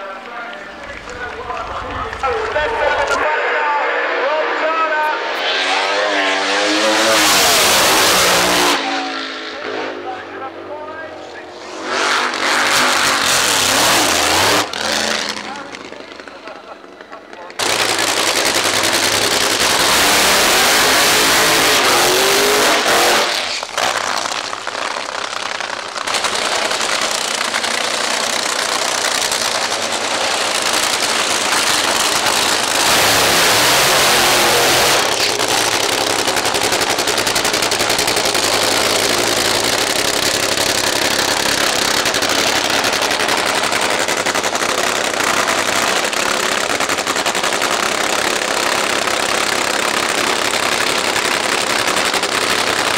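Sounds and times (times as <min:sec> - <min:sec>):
drag racing engines roaring: 0:00.0 - 0:52.9.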